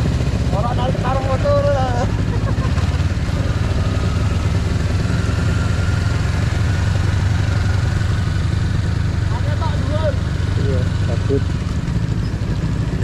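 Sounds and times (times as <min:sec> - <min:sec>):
motorcycle engine running: 0:00.0 - 0:13.0
road and air noise: 0:00.0 - 0:13.0.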